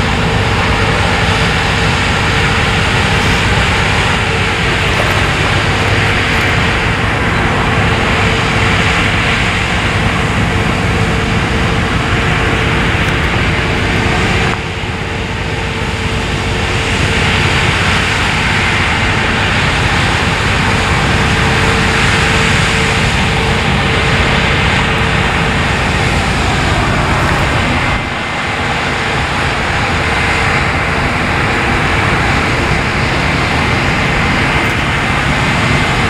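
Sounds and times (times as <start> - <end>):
combine harvester running: 0.0 - 36.0
constant machine whine: 0.0 - 36.0.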